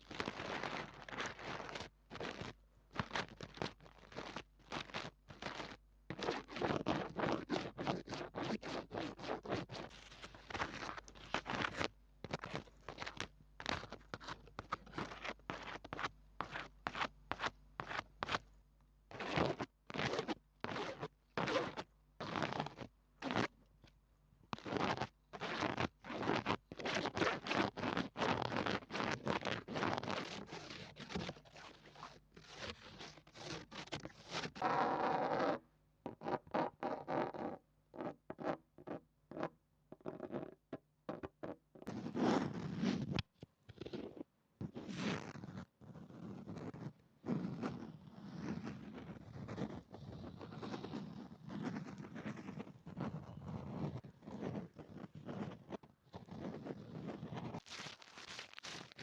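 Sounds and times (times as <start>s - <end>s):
scratchy rubbing on microphone: 0.0s - 18.5s, 19.1s - 23.6s, 24.5s - 59.0s.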